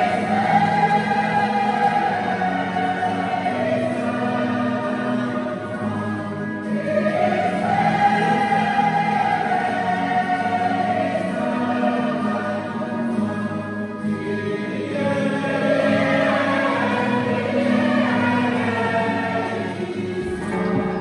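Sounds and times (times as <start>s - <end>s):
choir singing hymn chords: 0.0s - 21.0s.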